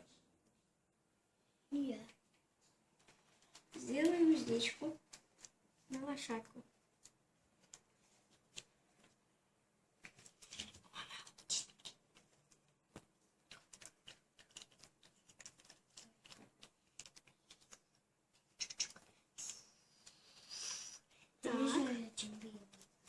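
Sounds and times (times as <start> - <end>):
hands working plasticine: 2.0 - 23.0.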